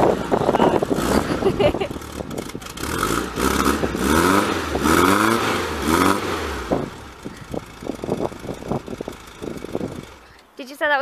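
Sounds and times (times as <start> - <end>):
car engine revving and idling: 0.0 - 10.3.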